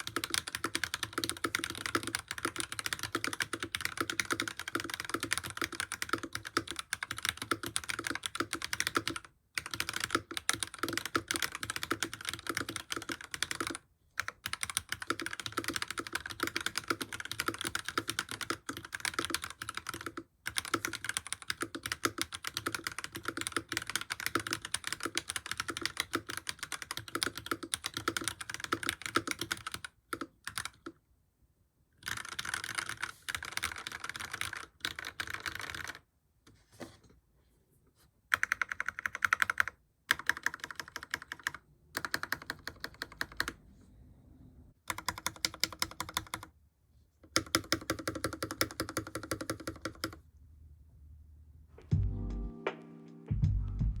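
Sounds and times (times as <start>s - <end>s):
mechanical keyboard typing: 0.0s - 31.0s, 32.0s - 36.1s, 38.3s - 43.6s, 44.8s - 46.5s, 47.3s - 50.2s.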